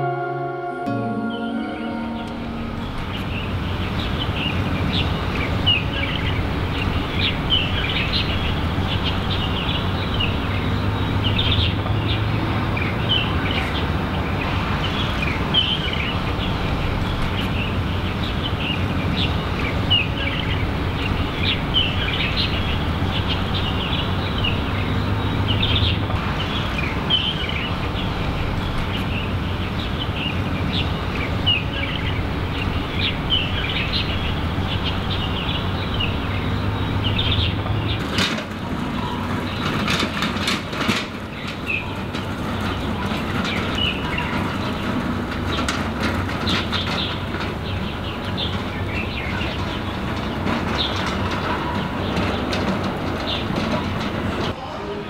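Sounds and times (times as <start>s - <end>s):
low outdoor rumble: 1.1s - 55.0s
small birds chirping: 1.3s - 54.6s.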